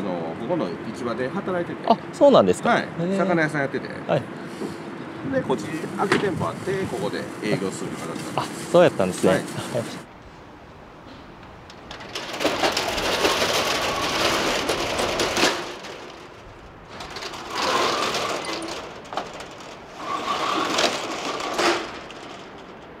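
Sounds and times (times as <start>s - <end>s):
outdoor street noise: 0.0s - 23.0s.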